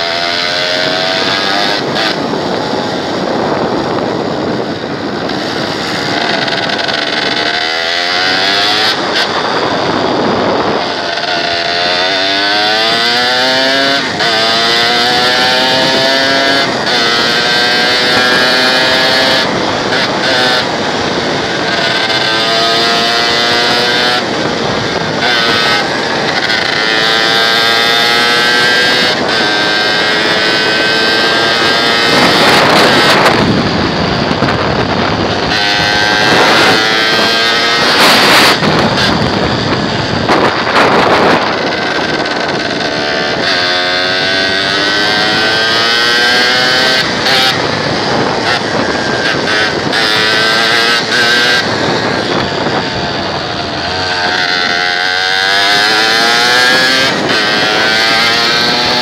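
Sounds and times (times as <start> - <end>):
motorcycle engine revving: 0.0 - 59.0
wind buffeting microphone: 0.0 - 59.0.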